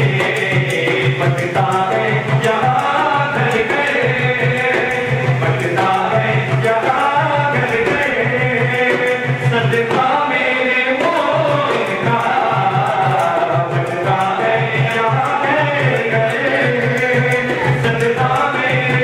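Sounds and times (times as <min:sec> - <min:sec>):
person singing devotional song: 0:00.0 - 0:19.0
repeating drum beat: 0:00.0 - 0:19.0.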